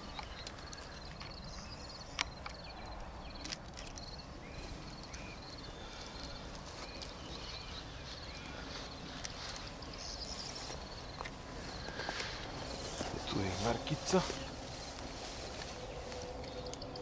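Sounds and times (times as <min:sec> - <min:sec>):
faint chirping calls: 0:00.0 - 0:17.0.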